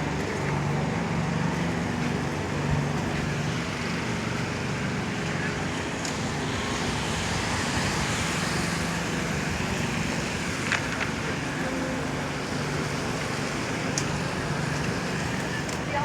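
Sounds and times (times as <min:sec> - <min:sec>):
low engine hum: 0:00.0 - 0:16.0
tyres on wet pavement: 0:00.0 - 0:16.0.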